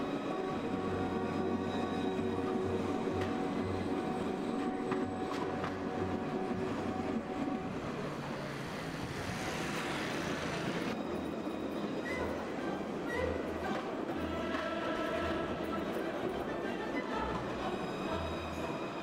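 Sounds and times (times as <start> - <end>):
wheels rolling on rail: 0.0 - 16.4
tram electric drive humming: 0.0 - 19.0.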